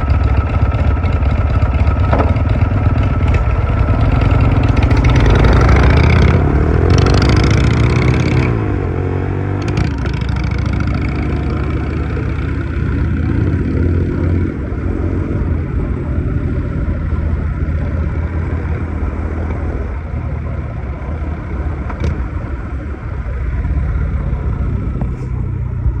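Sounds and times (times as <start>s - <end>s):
motorcycle engine revving and idling: 0.0s - 26.0s.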